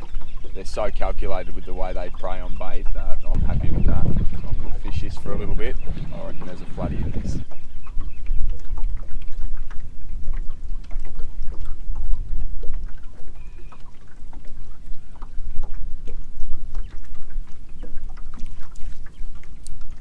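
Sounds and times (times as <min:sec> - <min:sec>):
water splashing against boat hull: 0:00.0 - 0:20.0
wind rumble on microphone: 0:00.0 - 0:20.0.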